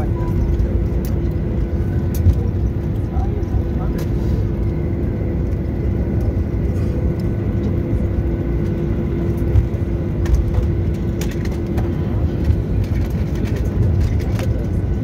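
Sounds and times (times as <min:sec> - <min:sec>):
airliner cabin rumble: 0:00.0 - 0:15.0
steady hum: 0:00.0 - 0:15.0.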